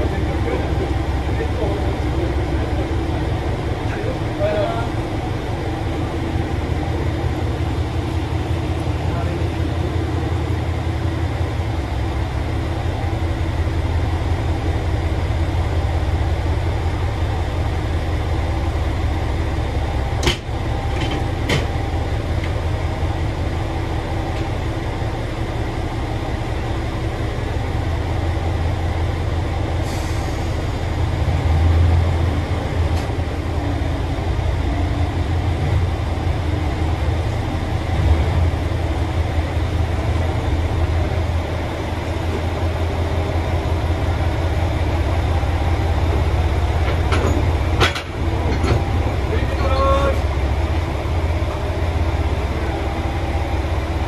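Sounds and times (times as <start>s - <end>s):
diesel railcar engines rumbling: 0.0s - 54.0s.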